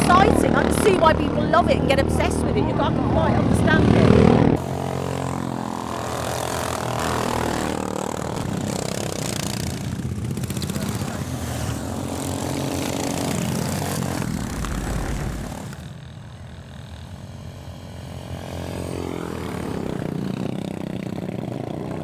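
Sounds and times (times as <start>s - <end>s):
lawnmower engines running hard: 0.0s - 22.0s.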